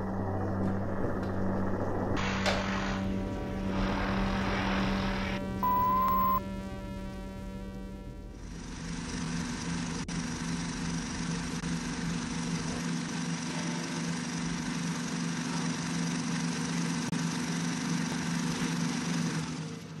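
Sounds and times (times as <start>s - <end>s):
motor drone: 0.0s - 20.0s.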